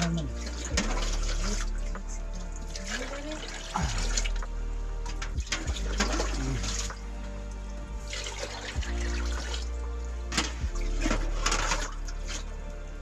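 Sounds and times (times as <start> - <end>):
water pouring and sloshing: 0.0 - 13.0.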